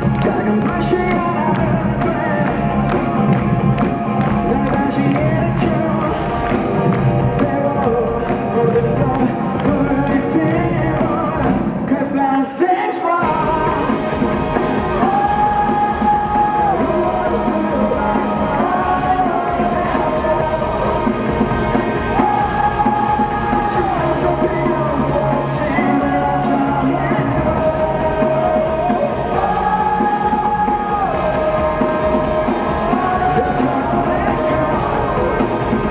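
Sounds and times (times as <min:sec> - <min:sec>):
live rock band playing: 0:00.0 - 0:12.1, 0:13.2 - 0:35.9.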